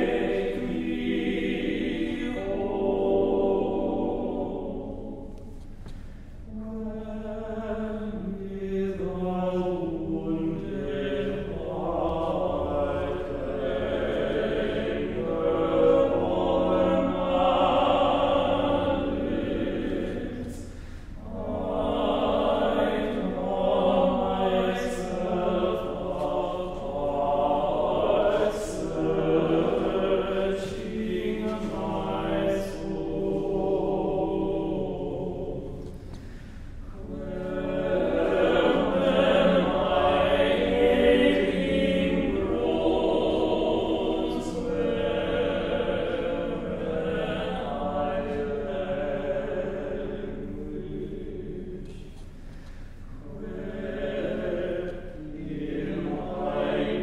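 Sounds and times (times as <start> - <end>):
men's choir singing: 0.0 - 5.4, 6.5 - 52.3, 53.2 - 57.0.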